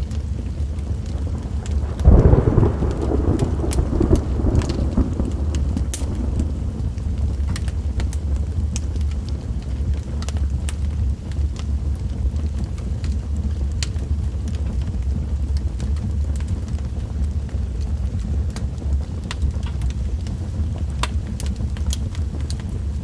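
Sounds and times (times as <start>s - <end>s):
steady rain: 0.0s - 23.0s
wood fire crackling: 0.0s - 23.0s
thunder rumbling: 0.3s - 23.0s.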